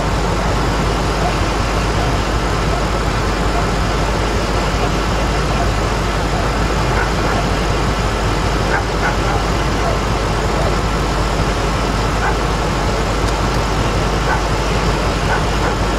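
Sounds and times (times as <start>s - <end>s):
rough car engine idling: 0.0s - 15.9s.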